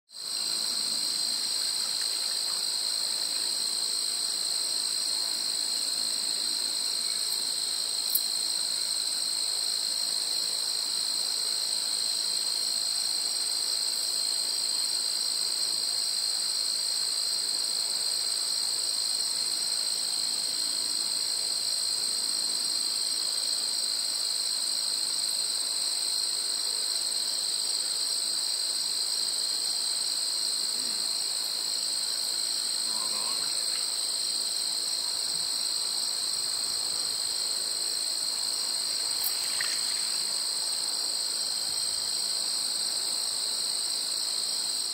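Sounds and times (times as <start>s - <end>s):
crickets chirping: 0.1s - 44.9s.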